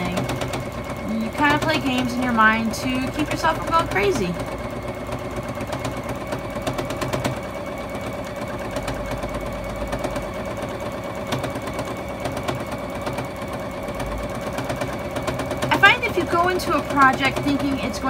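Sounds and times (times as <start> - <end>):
sewing machine stitching: 0.0 - 18.0.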